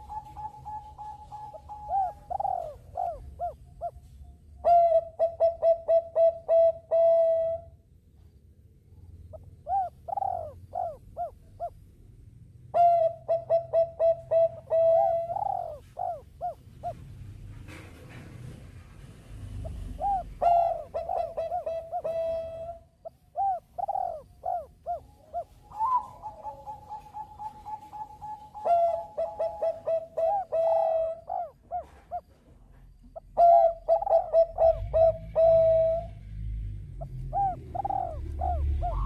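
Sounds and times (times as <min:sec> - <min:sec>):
dove cooing: 0:00.0 - 0:07.7, 0:09.3 - 0:11.8, 0:12.7 - 0:17.2, 0:19.6 - 0:32.4, 0:33.1 - 0:36.2, 0:37.0 - 0:39.0.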